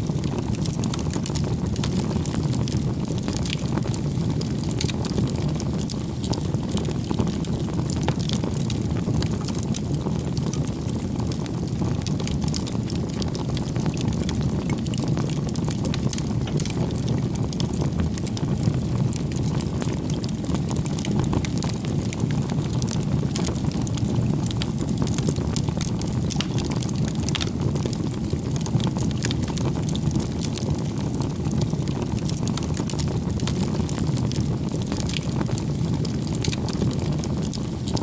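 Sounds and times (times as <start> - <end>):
fire crackling and popping: 0.0 - 38.0
flames rushing: 0.0 - 38.0.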